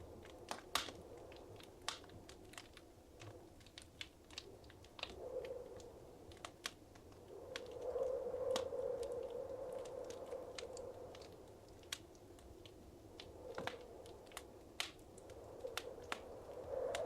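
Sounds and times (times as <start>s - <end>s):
soft rushing of flames: 0.0s - 17.0s
wood fire crackling: 0.0s - 17.0s
sharp pops and snaps: 0.2s - 17.0s.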